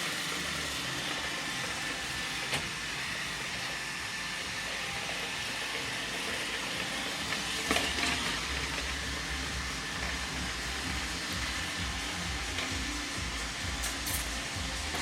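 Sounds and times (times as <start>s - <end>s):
robot vacuum running: 0.0s - 15.0s.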